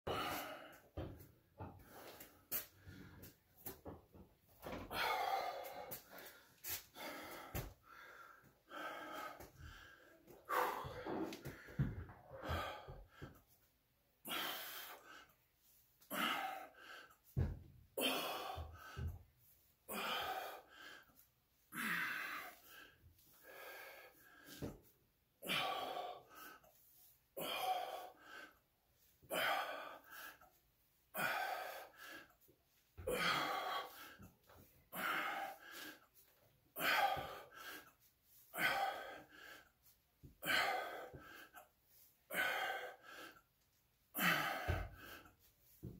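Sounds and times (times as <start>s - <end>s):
man breathing hard: 0.1s - 4.0s, 4.6s - 13.5s, 14.2s - 43.5s, 44.1s - 45.9s.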